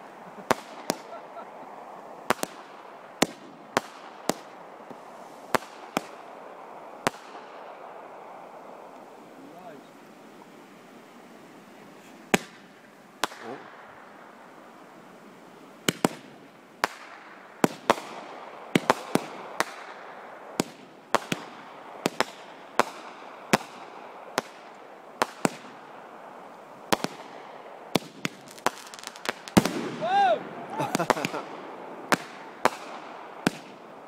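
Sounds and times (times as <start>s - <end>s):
fireworks bangs: 0.0s - 8.8s, 12.3s - 14.2s, 15.8s - 25.9s, 26.9s - 34.0s
steady hiss: 0.0s - 34.0s.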